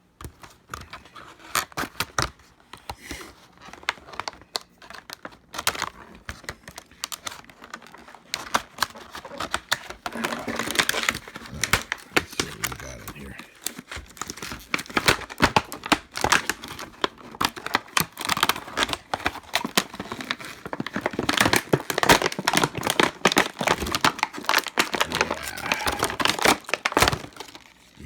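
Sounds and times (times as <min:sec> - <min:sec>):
plastic packaging crackling: 0:03.6 - 0:28.0.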